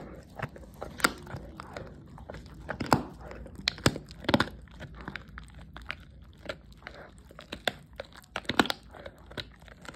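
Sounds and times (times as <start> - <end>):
dog chewing food: 0.0 - 9.9.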